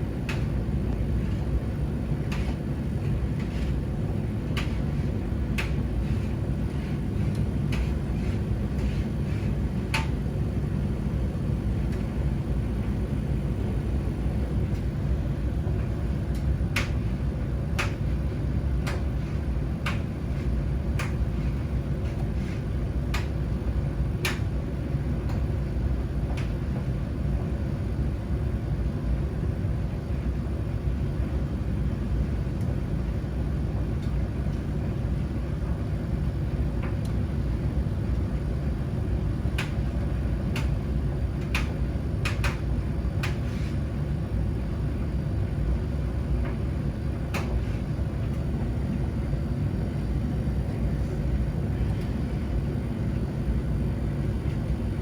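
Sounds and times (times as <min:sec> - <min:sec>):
washing machines rumbling: 0:00.0 - 0:55.0.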